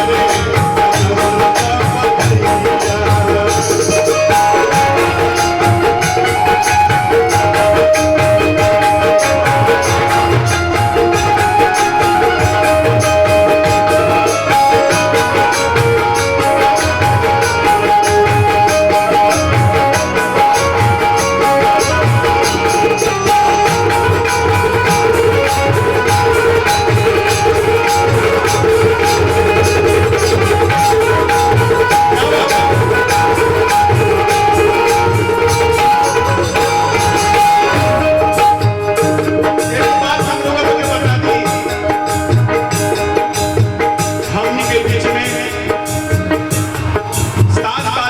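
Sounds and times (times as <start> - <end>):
live folk band music: 0.0 - 48.0.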